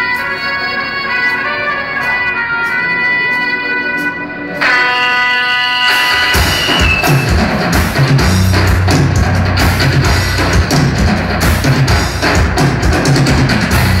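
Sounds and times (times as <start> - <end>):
band with drums and bass: 0.0 - 14.0.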